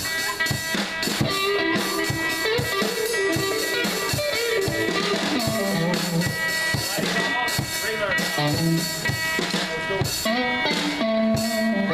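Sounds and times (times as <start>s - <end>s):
bass guitar: 0.0s - 11.9s
drum kit: 0.0s - 11.9s
electric guitars: 0.0s - 11.9s.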